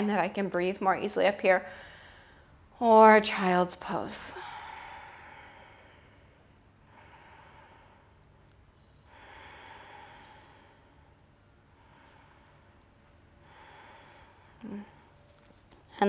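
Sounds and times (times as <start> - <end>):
woman breathing slowly: 1.6 - 2.8, 4.2 - 16.0.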